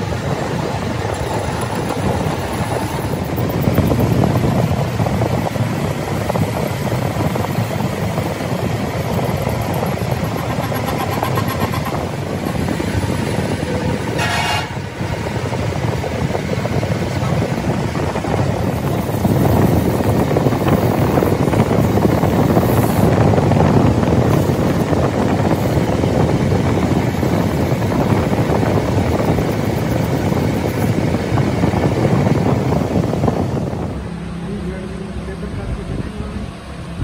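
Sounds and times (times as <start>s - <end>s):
workshop machinery rumbling: 0.0s - 37.0s.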